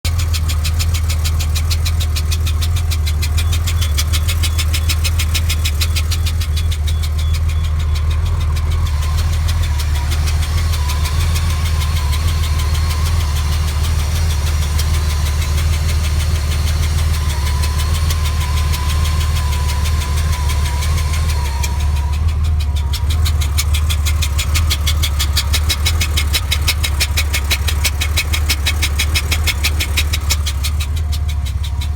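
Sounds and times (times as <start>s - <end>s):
car engine idling: 0.0s - 31.9s
fast even clicking: 0.1s - 31.9s.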